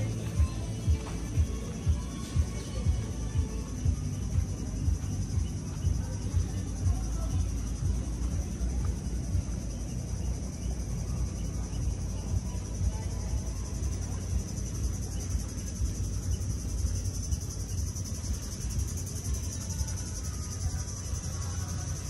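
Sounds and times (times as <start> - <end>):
high-pitched insect drone: 0.0 - 22.0
low uneven rumble: 0.0 - 22.0.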